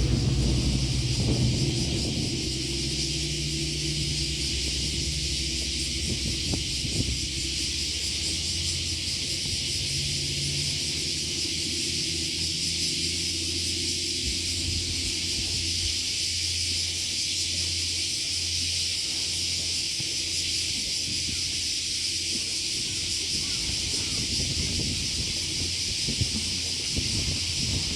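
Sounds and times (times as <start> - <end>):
cicadas chorus: 0.0 - 27.9
low steady hum: 0.0 - 27.9.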